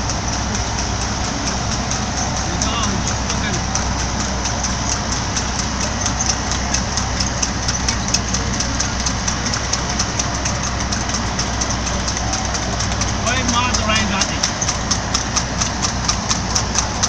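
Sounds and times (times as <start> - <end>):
car hum and road noise: 0.0 - 17.0
hooves clip-clopping on tarmac: 0.0 - 17.0.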